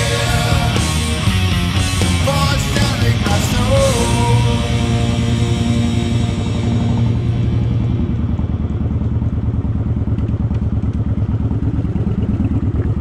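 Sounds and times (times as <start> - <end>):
motorcycle engine throbbing: 0.0 - 13.0.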